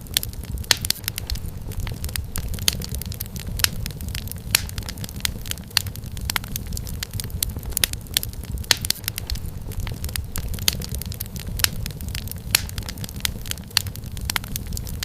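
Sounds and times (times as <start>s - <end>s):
flames low rumble: 0.0s - 15.0s
wood fire crackling and popping: 0.0s - 15.0s.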